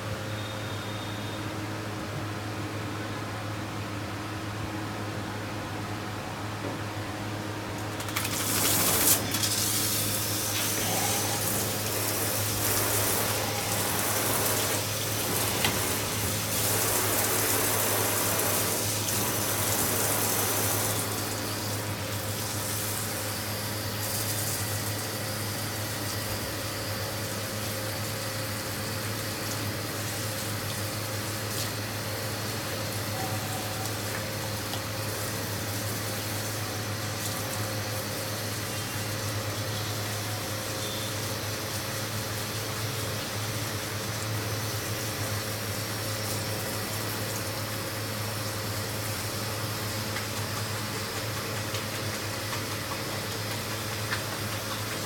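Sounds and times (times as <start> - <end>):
shower sprayer water rushing: 7.8 - 55.0.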